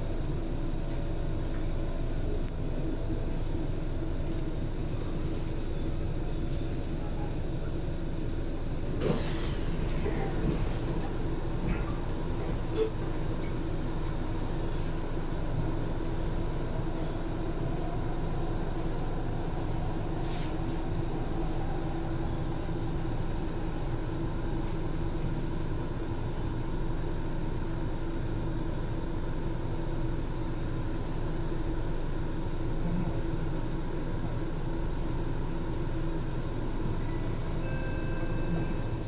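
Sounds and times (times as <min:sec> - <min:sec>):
train car hum: 0:00.0 - 0:39.0.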